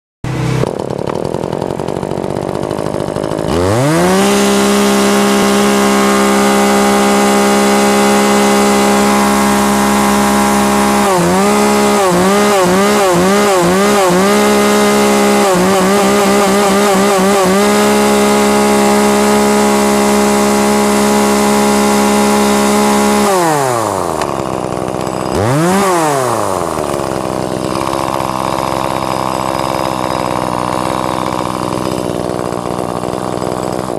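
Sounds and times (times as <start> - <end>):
chainsaw idling and revving: 0.3 - 33.9.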